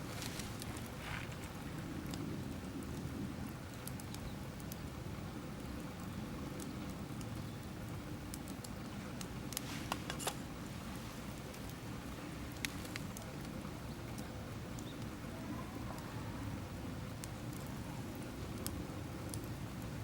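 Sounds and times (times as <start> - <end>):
campfire flames rushing: 0.0 - 20.0
fire crackling and popping: 0.0 - 20.0.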